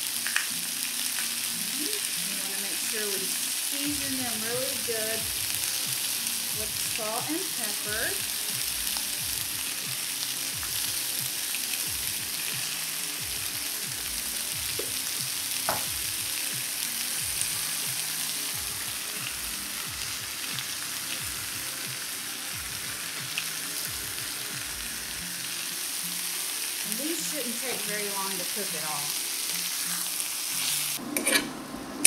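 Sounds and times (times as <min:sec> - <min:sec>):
chicken sizzling in hot oil: 0:00.0 - 0:31.6.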